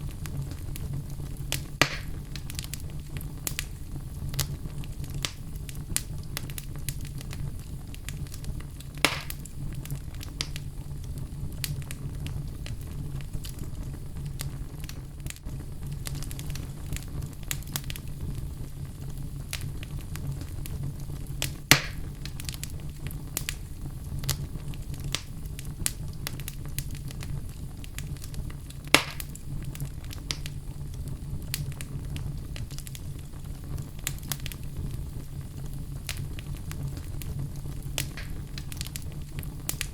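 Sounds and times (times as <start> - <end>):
fire pops: 0.0 - 39.9
fire rumbling and crackling: 0.0 - 39.9.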